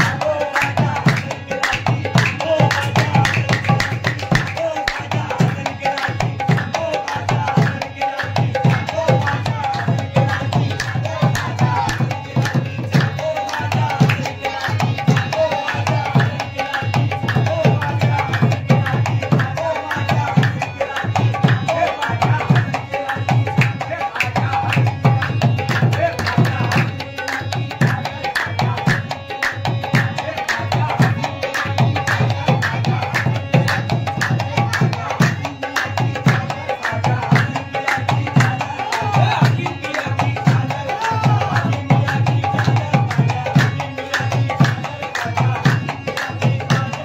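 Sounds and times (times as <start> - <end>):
drums beaten in steady rhythm: 0.0 - 47.0.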